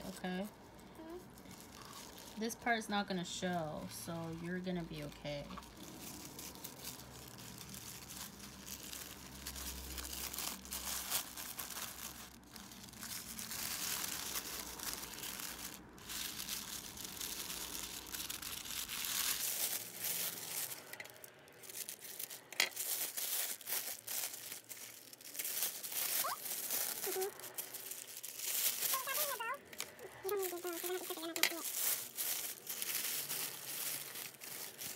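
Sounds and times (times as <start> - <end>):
tissue paper rustling: 0.0 - 34.9.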